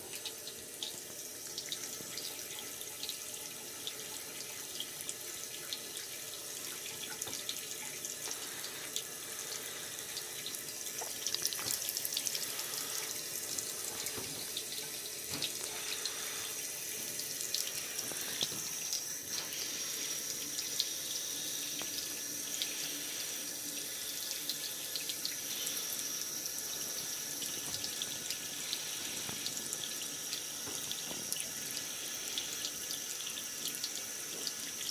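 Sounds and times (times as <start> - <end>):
faucet running into sink: 0.0 - 34.9.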